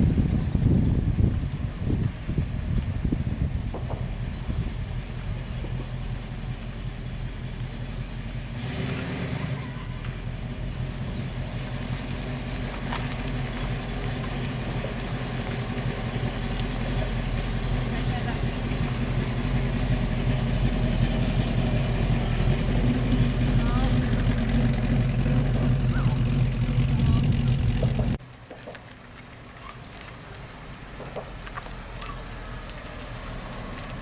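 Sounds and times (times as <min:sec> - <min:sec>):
car engine low exhaust note: 0:00.0 - 0:28.2.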